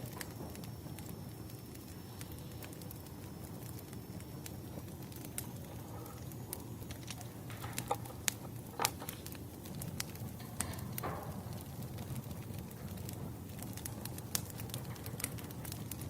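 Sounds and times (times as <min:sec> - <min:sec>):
firewood crackling and popping: 0:00.0 - 0:16.0
low rumble of fire: 0:00.0 - 0:16.0.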